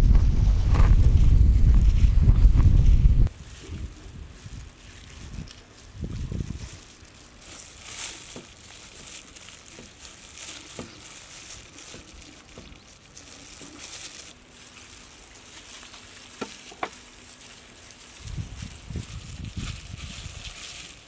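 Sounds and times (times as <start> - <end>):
plastic gloves crinkling: 0.4 - 21.0
meat being cut and rubbed: 3.2 - 21.0.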